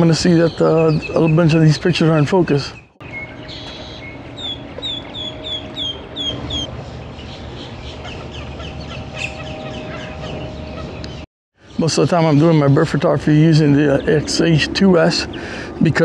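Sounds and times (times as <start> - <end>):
bird calling: 0.0 - 16.0
outdoor background noise: 0.0 - 16.0.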